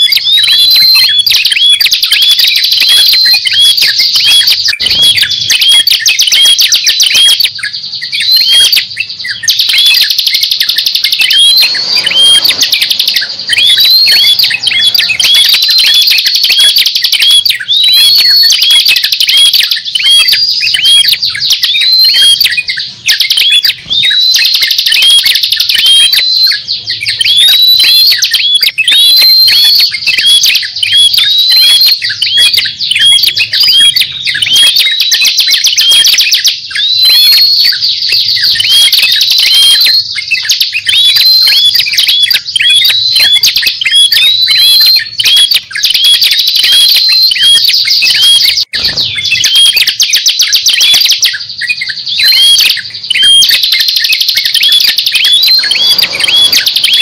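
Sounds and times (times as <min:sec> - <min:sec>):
sharp ticking bird notes: 0:00.0 - 0:57.0.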